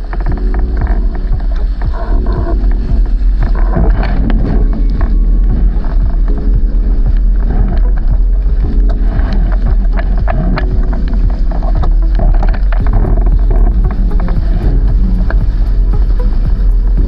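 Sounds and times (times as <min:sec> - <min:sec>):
rushing water: 0:00.0 - 0:17.0
wind buffeting microphone: 0:00.0 - 0:17.0.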